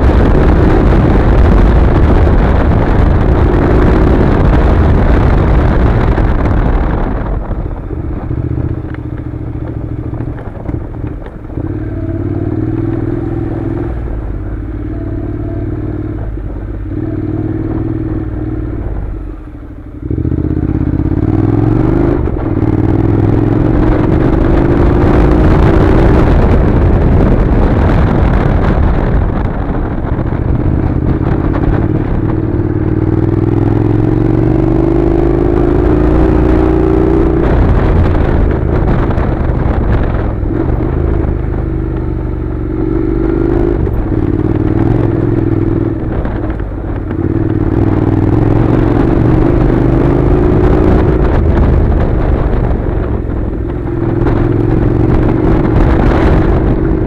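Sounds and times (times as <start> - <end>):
motorcycle engine: 0.0 - 57.0
wind noise on microphone: 0.0 - 57.0.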